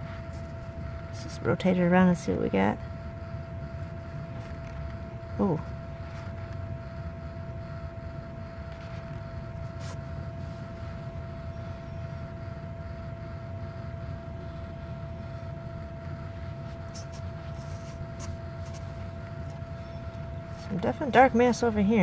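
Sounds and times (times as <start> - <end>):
low machine hum: 0.0 - 22.0
thin whine: 0.0 - 22.0.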